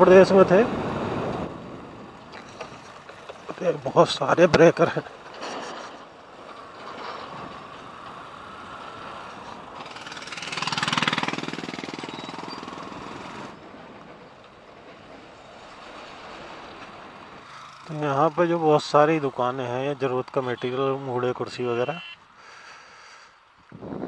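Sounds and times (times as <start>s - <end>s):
motorcycle riding noise: 0.0s - 13.8s, 15.6s - 22.3s.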